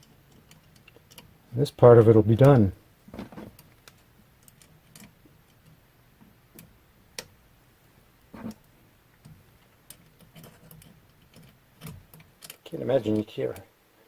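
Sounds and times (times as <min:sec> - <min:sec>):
faint clicks of metal parts: 0:00.0 - 0:13.8.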